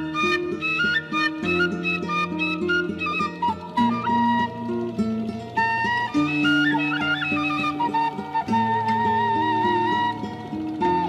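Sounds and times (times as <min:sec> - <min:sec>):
background music melody: 0:00.0 - 0:11.0.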